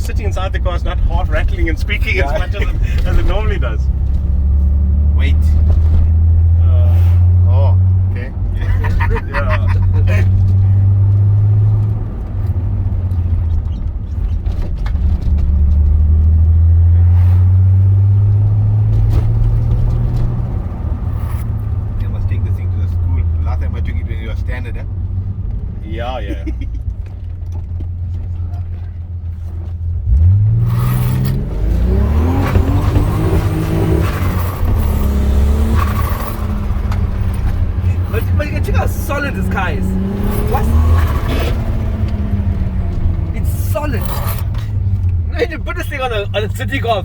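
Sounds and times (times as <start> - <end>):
car engine droning in cabin: 0.0 - 47.0.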